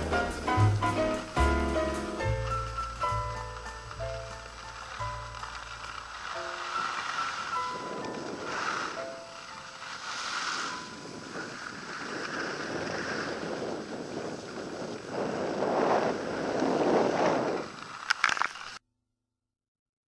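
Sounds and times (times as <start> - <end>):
skis hissing on snow: 0.0 - 18.8
wind rushing over microphone: 0.0 - 18.8.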